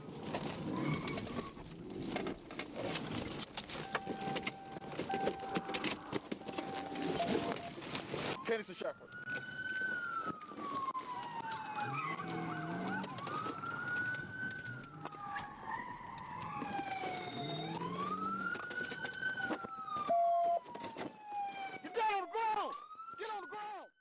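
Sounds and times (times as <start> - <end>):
police siren wailing: 3.7 - 24.0.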